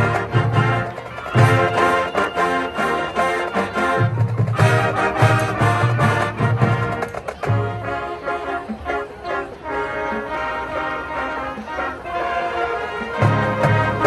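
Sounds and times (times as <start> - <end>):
brass ensemble playing: 0.0 - 14.0.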